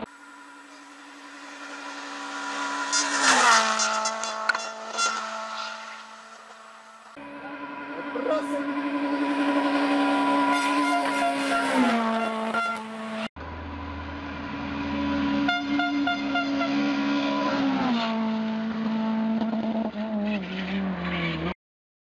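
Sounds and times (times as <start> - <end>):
rally car engine at full throttle: 0.0 - 21.6.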